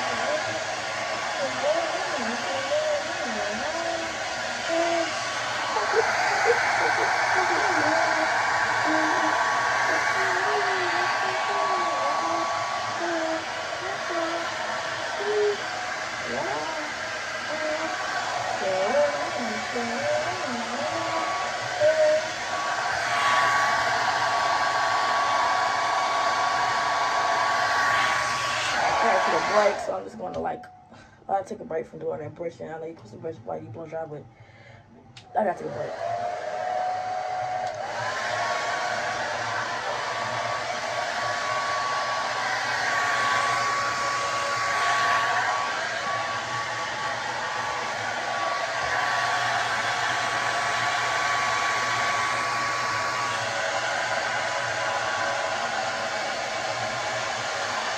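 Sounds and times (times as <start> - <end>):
hair dryer running: 0.0 - 30.5, 35.3 - 57.9.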